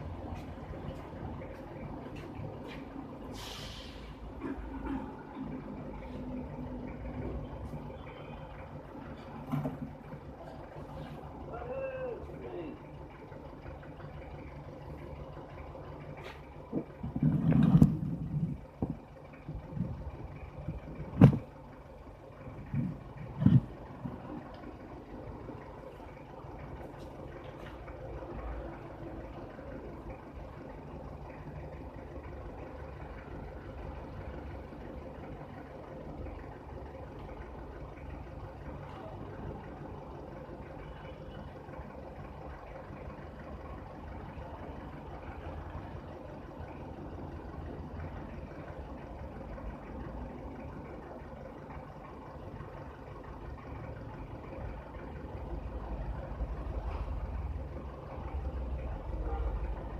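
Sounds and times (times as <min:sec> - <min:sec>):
engine rumbling: 0:00.0 - 0:59.9.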